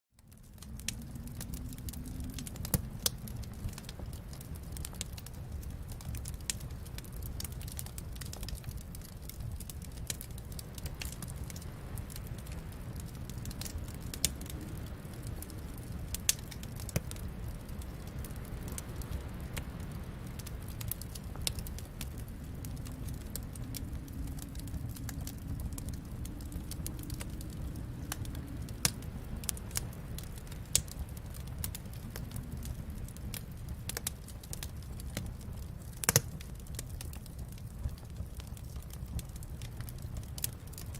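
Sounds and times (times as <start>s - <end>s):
low rumble of flames: 0.1s - 40.9s
wood fire crackling: 0.2s - 40.9s.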